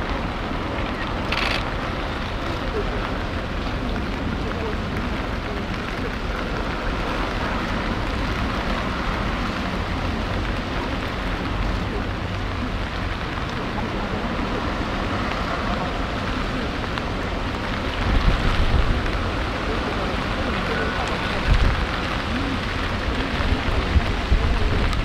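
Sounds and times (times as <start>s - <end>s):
rain falling: 0.0s - 25.0s
wind on microphone: 0.0s - 25.0s.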